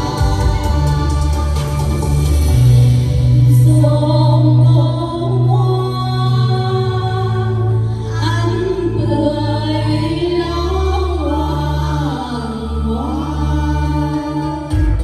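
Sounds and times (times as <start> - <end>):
long steady bass notes: 0.0 - 15.0.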